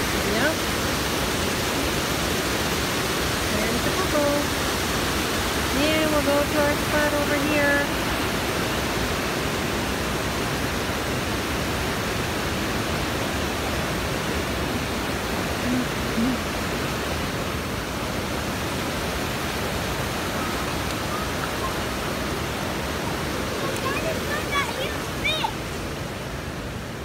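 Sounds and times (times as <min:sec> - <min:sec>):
water rushing over dam: 0:00.0 - 0:27.0.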